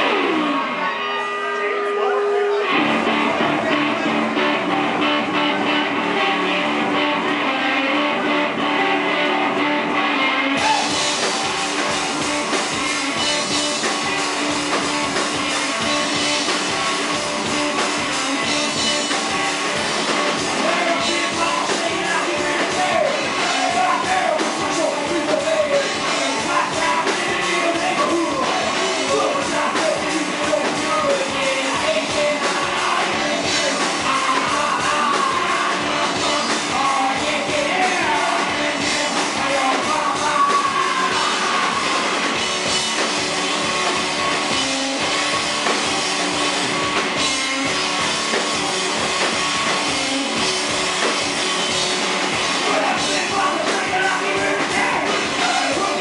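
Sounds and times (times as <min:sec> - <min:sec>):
drum kit with cymbals: 0:10.6 - 0:56.0.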